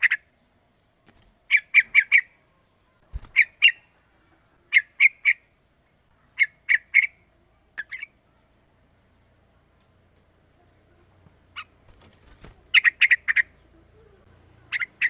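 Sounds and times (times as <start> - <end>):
bird chirping: 0.0 - 8.5, 10.2 - 15.0.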